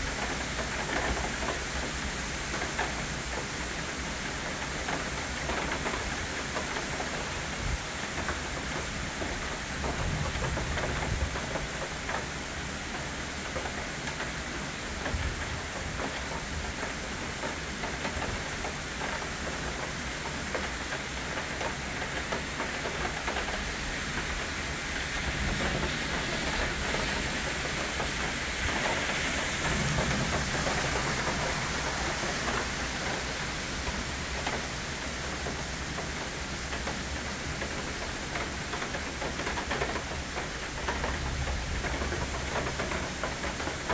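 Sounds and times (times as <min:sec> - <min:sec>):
rain falling on foliage: 0:00.0 - 0:43.9.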